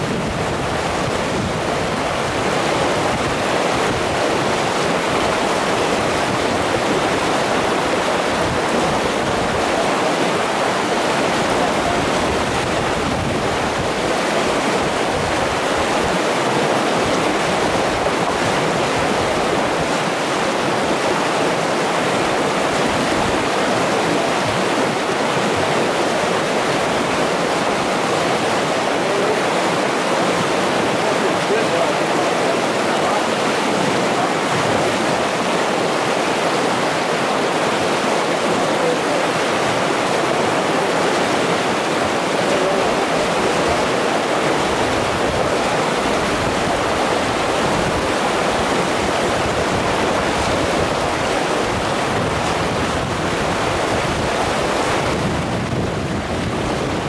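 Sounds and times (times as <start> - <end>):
river rapids rushing over rocks: 0.0 - 57.0.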